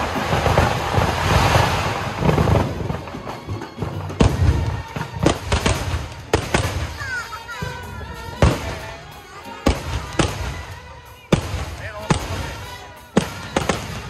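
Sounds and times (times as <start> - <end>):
firecrackers banging: 0.0 - 14.0.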